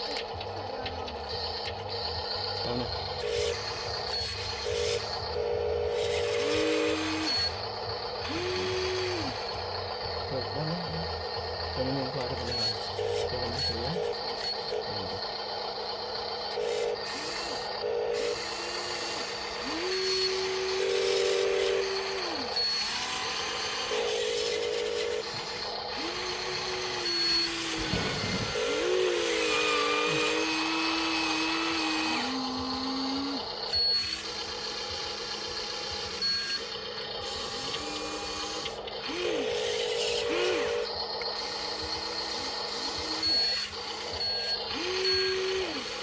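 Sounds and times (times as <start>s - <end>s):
electric motors whining: 0.0s - 46.0s.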